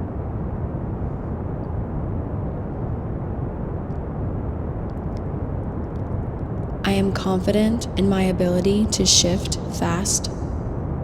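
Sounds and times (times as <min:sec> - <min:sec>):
steady pink noise hiss: 0:00.0 - 0:11.0.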